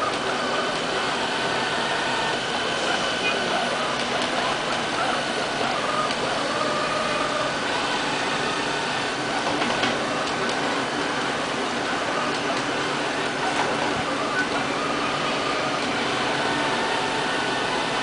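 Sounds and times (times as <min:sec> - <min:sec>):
robot vacuum cleaner whirring: 0:00.0 - 0:18.0.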